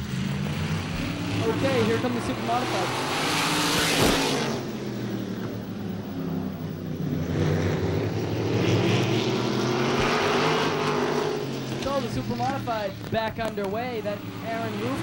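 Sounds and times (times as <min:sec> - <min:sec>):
car passing close: 0:00.0 - 0:15.0
race car engines roaring: 0:00.0 - 0:15.0.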